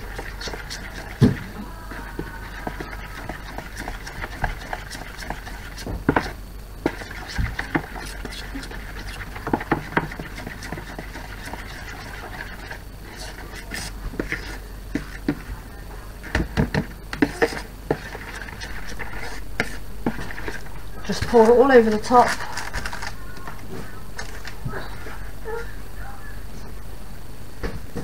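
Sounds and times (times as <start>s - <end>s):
spoon stirring in plastic bowl: 0.0s - 24.6s.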